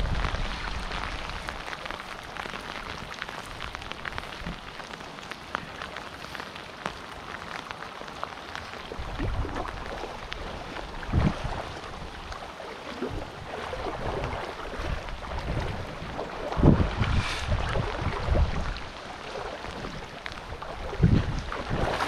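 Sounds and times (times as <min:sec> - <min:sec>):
rain falling on river: 0:00.0 - 0:22.0.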